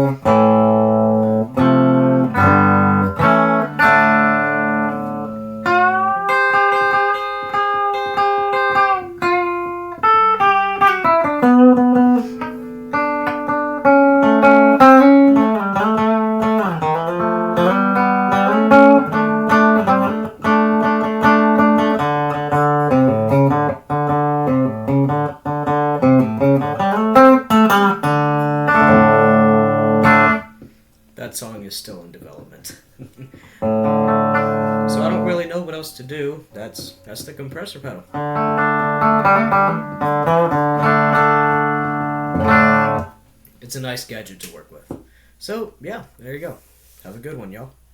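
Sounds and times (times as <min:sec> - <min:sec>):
electric guitar melody: 0:00.0 - 0:30.6, 0:33.6 - 0:43.4.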